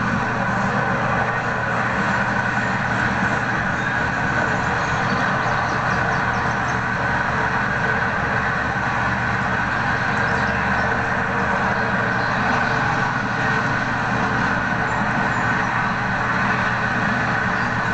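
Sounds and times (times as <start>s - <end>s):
steady mechanical hum: 0.0s - 17.9s.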